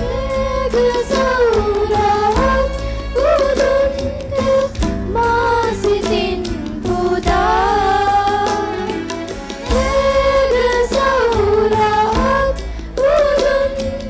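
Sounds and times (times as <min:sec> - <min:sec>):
children's choir singing: 0:00.0 - 0:14.0
instrumental backing with beat: 0:00.0 - 0:14.0.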